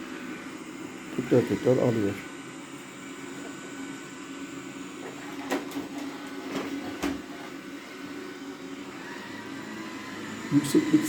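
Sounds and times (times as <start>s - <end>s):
robot vacuum suction hum: 0.0s - 11.0s.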